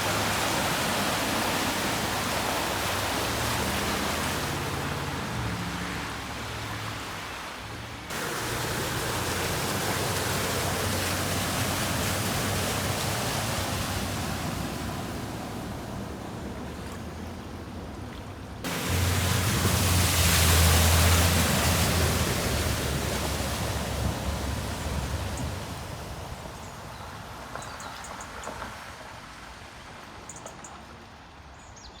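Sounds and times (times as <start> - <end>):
floodwater rushing: 0.0 - 30.2.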